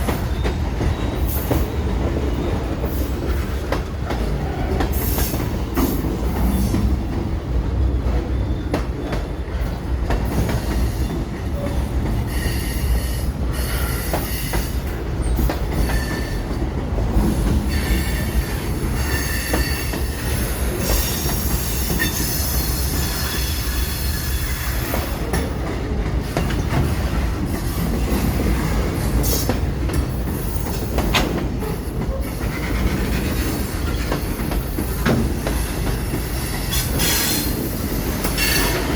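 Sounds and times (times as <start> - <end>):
rail joint clicks: 0.0 - 38.9
train wheels rumbling on rail: 0.0 - 38.9.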